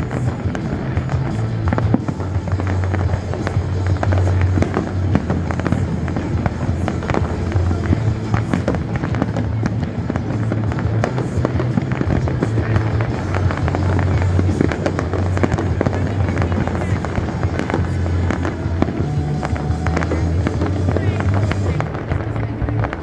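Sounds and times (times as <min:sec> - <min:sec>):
fireworks popping and crackling: 0:00.0 - 0:23.0
music playing: 0:00.0 - 0:23.0.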